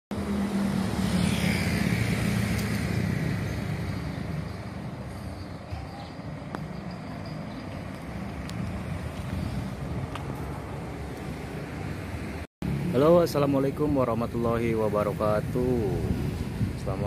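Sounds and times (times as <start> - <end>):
engine rumble with whine: 0.1 - 17.0.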